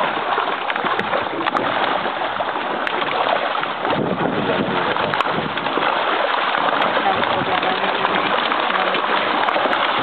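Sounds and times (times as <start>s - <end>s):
sea water splashing and churning: 0.0s - 10.0s.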